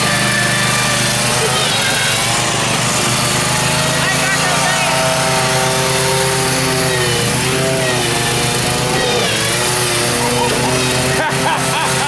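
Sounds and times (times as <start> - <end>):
lawn tractor engine running hard: 0.0 - 12.0.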